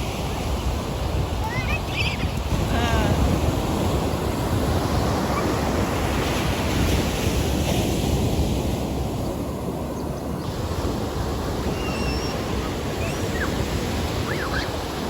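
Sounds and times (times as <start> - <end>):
sea surf washing on beach: 0.0 - 15.0
wind rumbling on microphone: 0.0 - 15.0.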